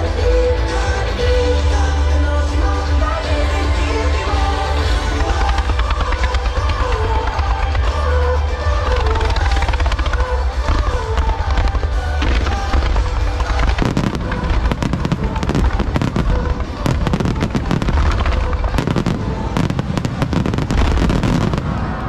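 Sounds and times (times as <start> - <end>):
fireworks crackling: 0.0 - 22.0
music: 0.0 - 22.0
fireworks deep booming: 3.5 - 22.0.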